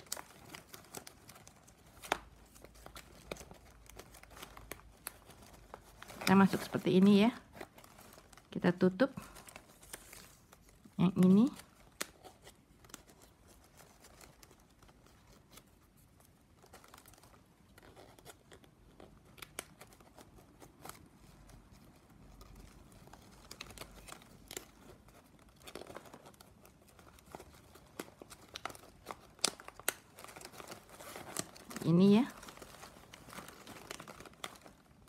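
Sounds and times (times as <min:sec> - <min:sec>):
plastic strapping crinkling and clicking: 0:00.0 - 0:35.0.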